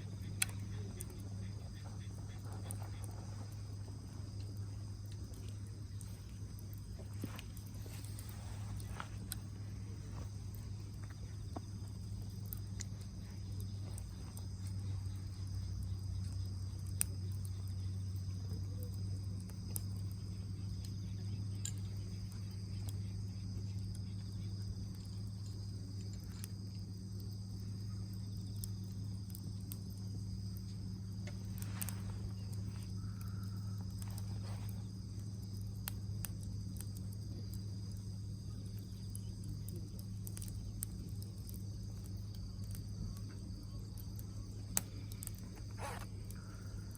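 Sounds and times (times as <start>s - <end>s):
crickets chirring: 0.0s - 46.9s
fire popping and crackling: 0.0s - 46.9s.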